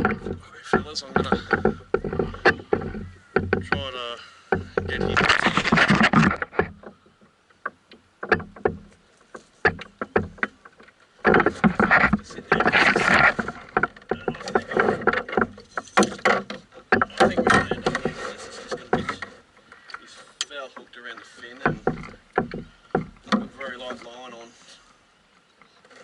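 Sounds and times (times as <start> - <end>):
gear knocking in a canoe: 0.0 - 24.4.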